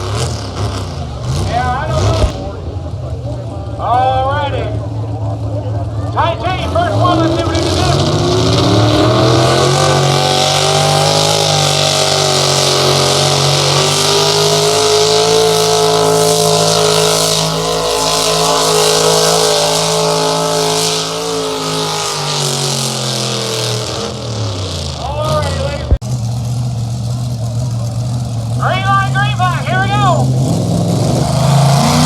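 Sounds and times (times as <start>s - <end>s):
engine at full throttle: 0.0s - 32.0s.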